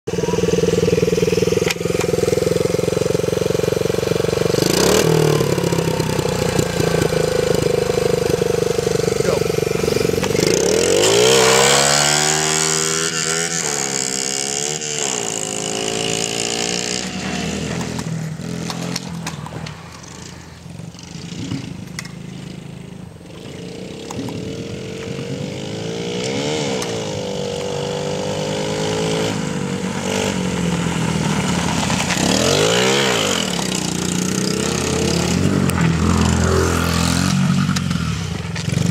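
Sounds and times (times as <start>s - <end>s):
mini bike engine revving: 0.1s - 38.9s.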